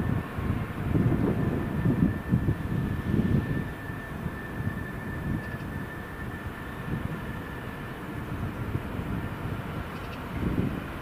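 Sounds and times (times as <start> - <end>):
constant high-pitched tone: 0.0 - 11.0
locomotive engine rumble: 0.0 - 11.0.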